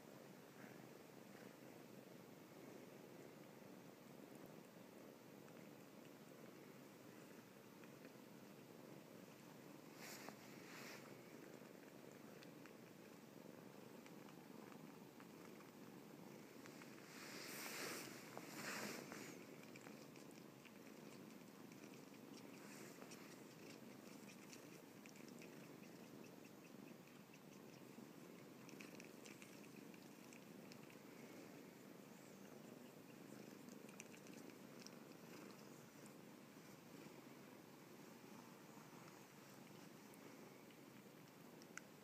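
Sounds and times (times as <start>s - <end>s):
kitten purring: 0.0s - 42.0s.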